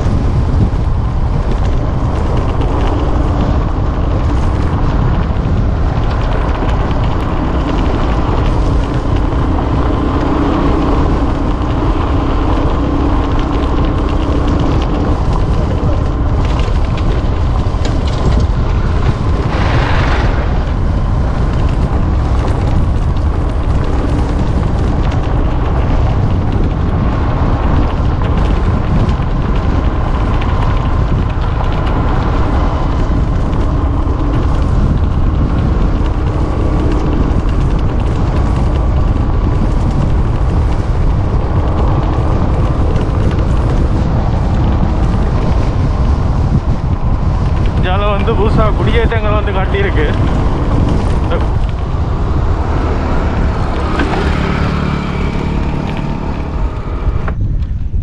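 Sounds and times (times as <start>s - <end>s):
faint motorcycle engine humming: 0.0s - 58.0s
wind buffeting microphone: 0.0s - 58.0s.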